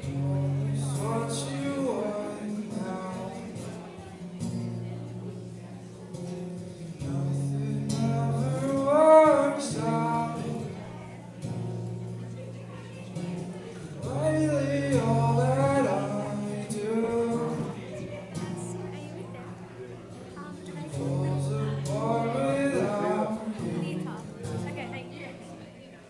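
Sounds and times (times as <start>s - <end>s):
man singing: 0.0s - 11.6s, 12.8s - 18.8s, 20.4s - 24.7s
acoustic guitar: 0.0s - 26.0s.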